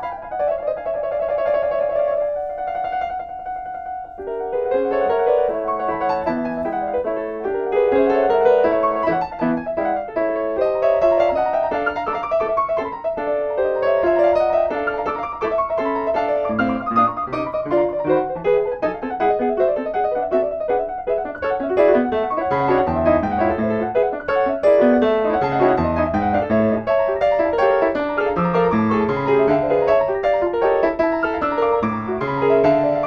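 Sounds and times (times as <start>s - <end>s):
fast piano passagework: 0.0s - 33.0s.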